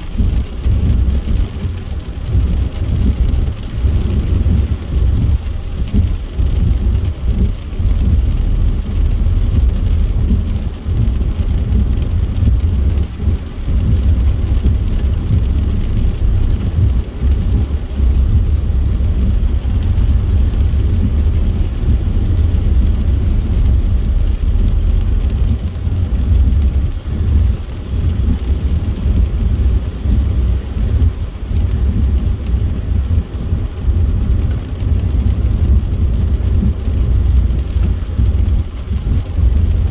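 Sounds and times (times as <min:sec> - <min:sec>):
rain and spray hissing on car: 0:00.0 - 0:39.9
tyres rumbling on wet road: 0:00.0 - 0:39.9.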